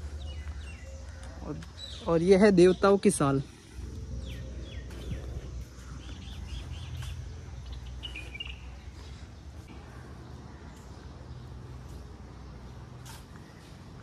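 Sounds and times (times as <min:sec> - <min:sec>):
birds chirping: 0:00.0 - 0:14.0
low outdoor rumble: 0:00.0 - 0:14.0.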